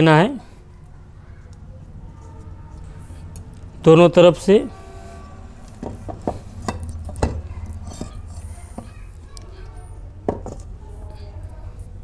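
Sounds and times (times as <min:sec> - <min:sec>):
steady low hum: 0:00.3 - 0:12.0.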